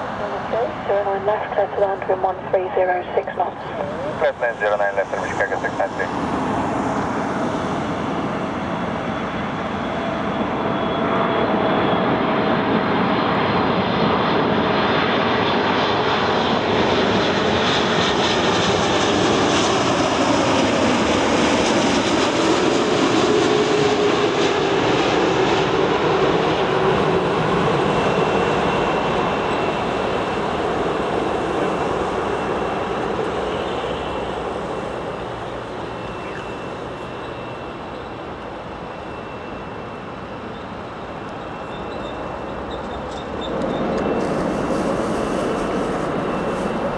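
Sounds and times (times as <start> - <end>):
jet airliner landing: 0.0 - 46.9.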